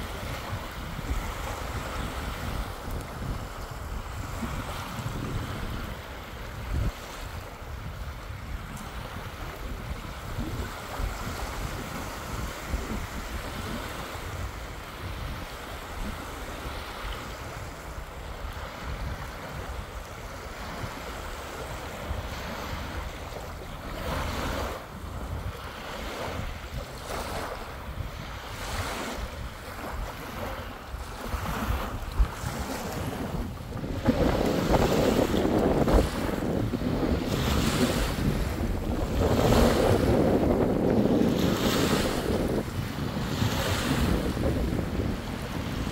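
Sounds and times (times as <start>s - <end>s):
waves lapping on sandy beach: 0.0s - 45.9s
wind rumble on microphone: 0.0s - 45.9s.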